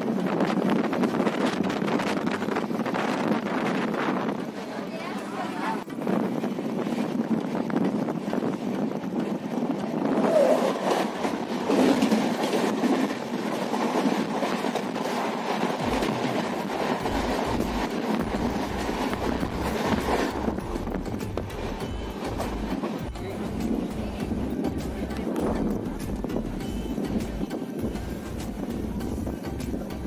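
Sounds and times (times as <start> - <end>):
train wheels rushing on track: 0.0 - 30.0.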